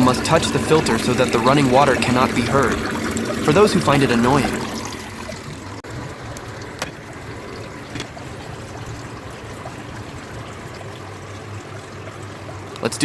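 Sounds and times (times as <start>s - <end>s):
low steady hum: 0.0s - 13.0s
water trickling: 0.0s - 13.0s.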